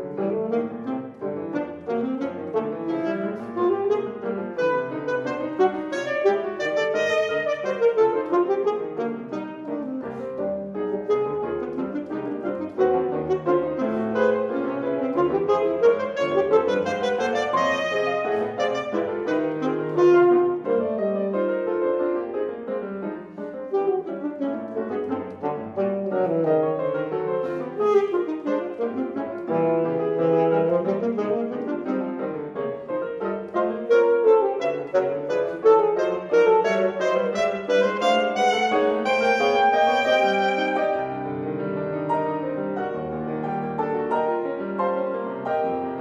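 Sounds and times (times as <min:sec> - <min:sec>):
piano accompaniment: 0:00.0 - 0:46.0
alto saxophone: 0:00.1 - 0:22.0, 0:23.2 - 0:41.4.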